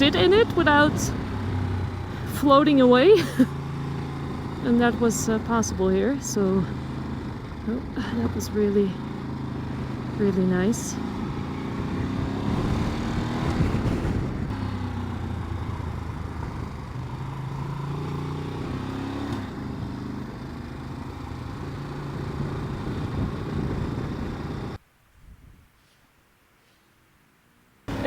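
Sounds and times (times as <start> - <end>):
motorcycle engine running: 0.0 - 24.8
wind and road noise: 0.0 - 26.0, 27.4 - 28.0.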